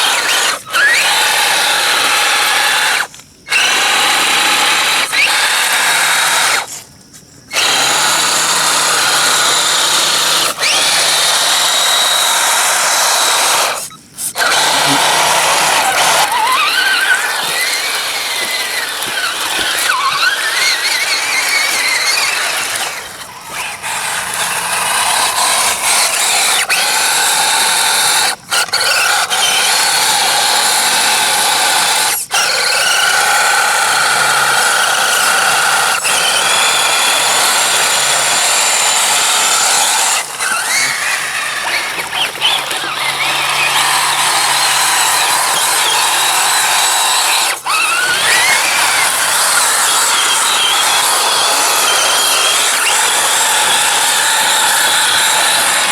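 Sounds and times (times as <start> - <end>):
toy truck electric motor whining: 0.0 - 6.9, 7.5 - 55.9.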